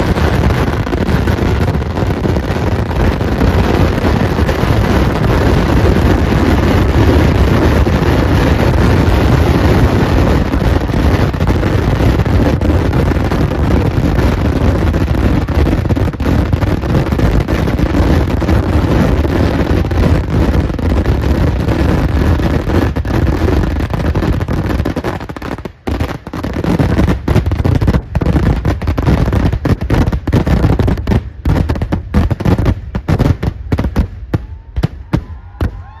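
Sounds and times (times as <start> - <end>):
firecracker bangs: 0.0 - 36.0.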